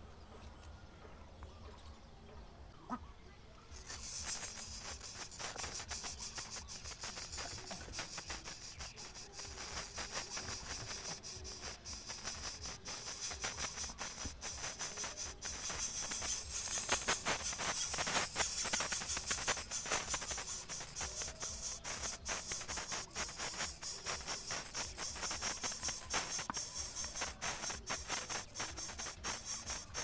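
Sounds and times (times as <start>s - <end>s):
nestlings hissing begging calls: 3.7s - 30.0s.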